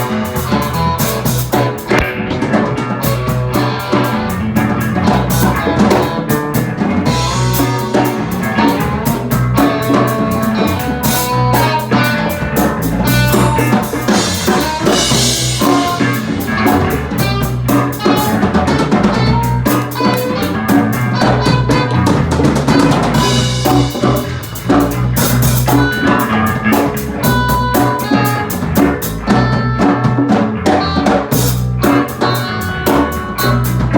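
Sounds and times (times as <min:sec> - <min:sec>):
bass line: 0:00.0 - 0:33.9
drum kit: 0:00.0 - 0:33.9.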